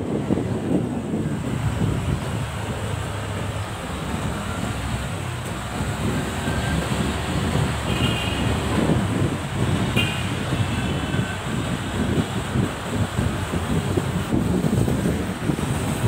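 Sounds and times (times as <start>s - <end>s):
road and traffic rumble: 0.0s - 16.0s
wind buffeting microphone: 0.0s - 16.0s.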